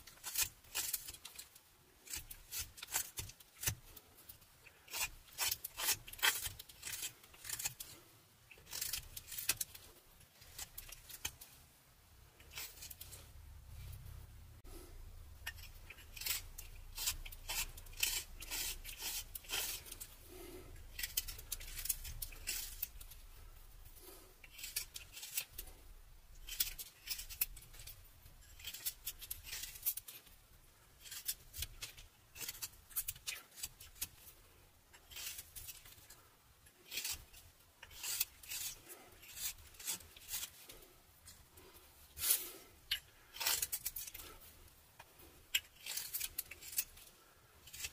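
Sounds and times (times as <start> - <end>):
knife scraping wood shavings: 0.0 - 11.5, 12.3 - 13.3, 15.5 - 23.2, 24.0 - 25.8, 26.4 - 30.3, 31.0 - 34.2, 35.0 - 40.9, 41.6 - 47.9.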